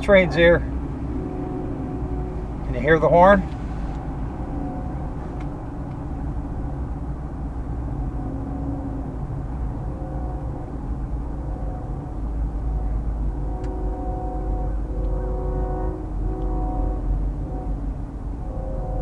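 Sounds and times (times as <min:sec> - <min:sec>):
car road and engine noise: 0:00.0 - 0:19.0
distant locomotive air horn: 0:00.0 - 0:19.0.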